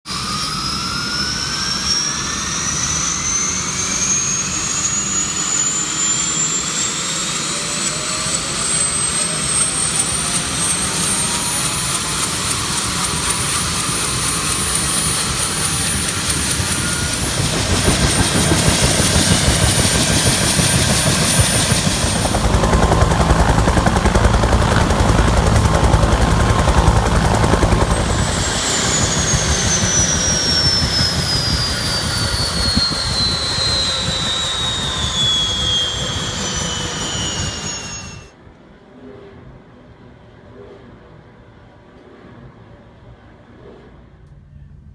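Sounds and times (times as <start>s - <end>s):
helicopter rotor beat: 0.1s - 38.4s
helicopter turbine whine: 0.1s - 38.4s.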